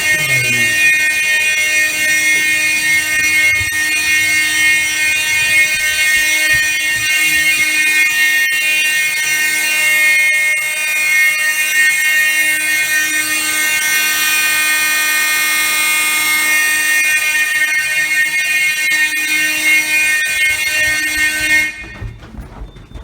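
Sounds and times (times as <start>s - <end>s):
fire alarms shrill electronic tone: 0.0s - 23.0s.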